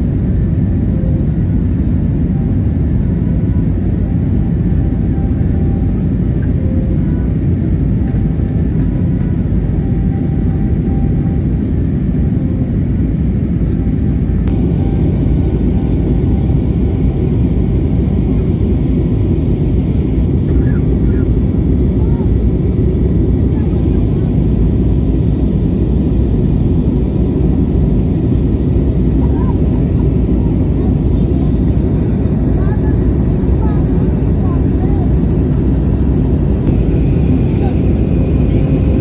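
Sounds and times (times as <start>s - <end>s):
jet engines rumbling: 0.0s - 39.0s.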